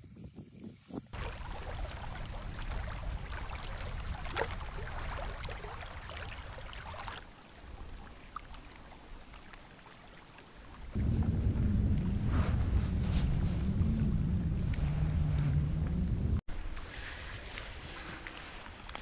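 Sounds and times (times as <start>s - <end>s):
wind rumbling on microphone: 0.0s - 8.2s, 10.8s - 19.0s
small waves lapping: 1.1s - 19.0s.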